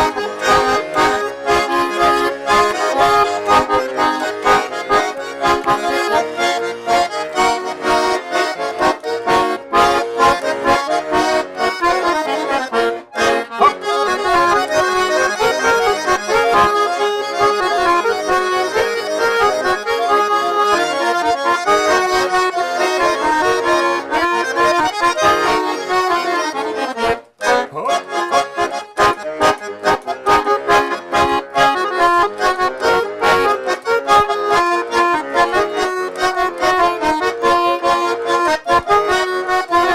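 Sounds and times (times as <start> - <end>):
button accordion playing polka: 0.0 - 39.9.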